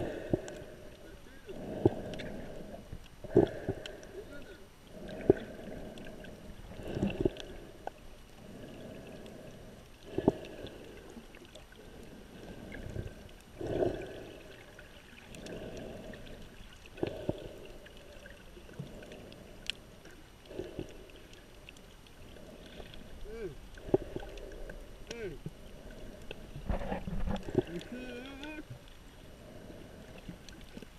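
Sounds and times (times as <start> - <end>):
muffled water sloshing underwater: 0.0 - 30.9.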